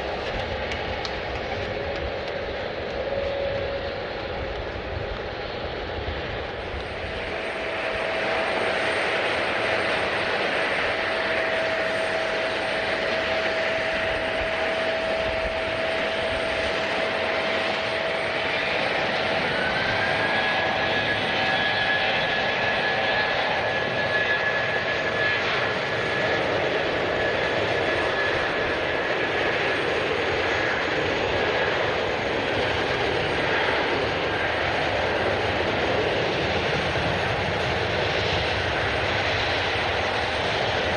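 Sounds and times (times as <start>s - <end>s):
jet engines rushing and whining: 0.0s - 40.9s.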